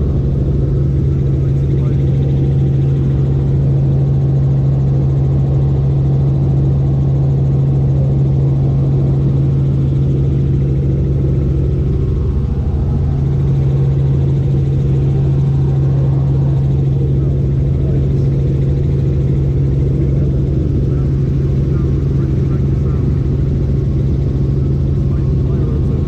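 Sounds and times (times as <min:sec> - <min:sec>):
helicopter engine and rotor drone: 0:00.0 - 0:26.0
rotor blades beating: 0:00.0 - 0:26.0.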